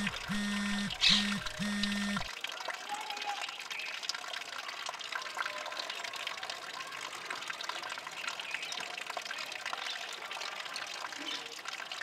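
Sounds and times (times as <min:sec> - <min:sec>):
water trickling from metal tap: 0:02.3 - 0:12.0.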